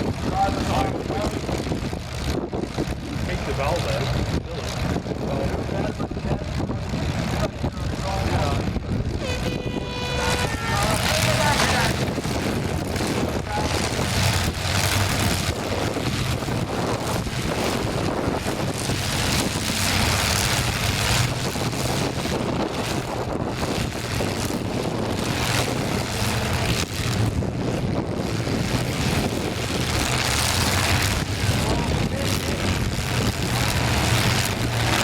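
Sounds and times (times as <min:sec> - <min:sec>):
car engines humming: 0:00.0 - 0:35.0
wind buffeting microphone: 0:00.0 - 0:35.0.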